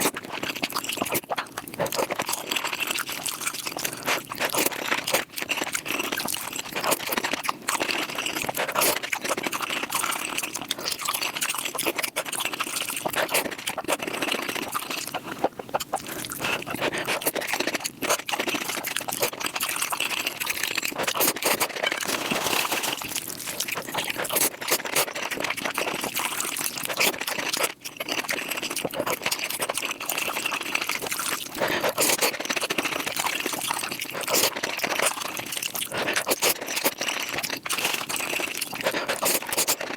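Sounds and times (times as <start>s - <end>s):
slurping and chewing: 0.0s - 39.9s.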